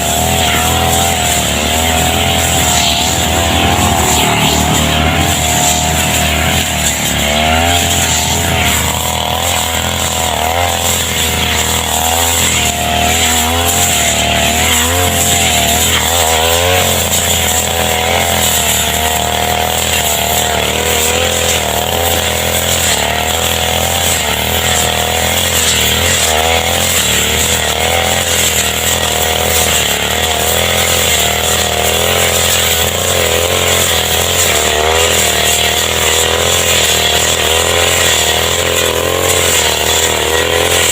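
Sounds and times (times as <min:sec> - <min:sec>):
brush cutter engine at high revs: 0:00.0 - 0:40.9.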